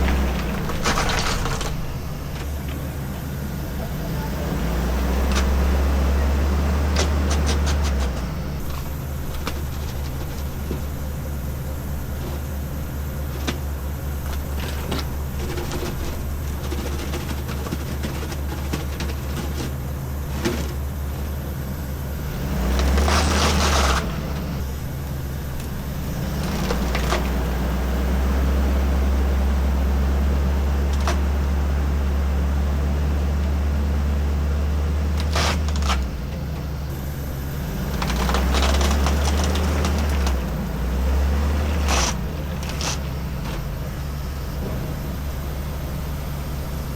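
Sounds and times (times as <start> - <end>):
ambulance engine running: 0.0 - 46.9.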